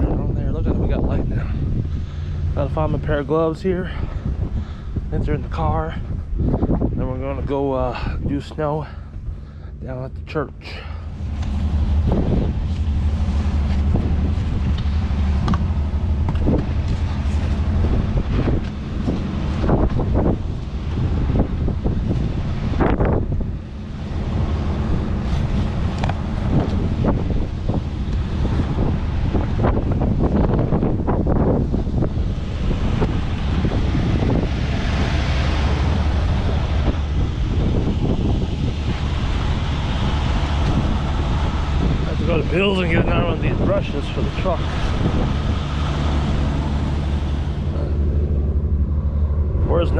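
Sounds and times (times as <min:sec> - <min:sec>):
vehicle engine rumbling: 0:00.0 - 0:49.9
wind buffeting microphone: 0:00.0 - 0:49.9.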